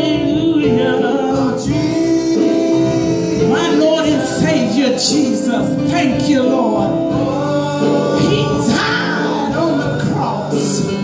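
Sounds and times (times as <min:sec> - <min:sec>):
gospel group singing in harmony: 0:00.0 - 0:11.0.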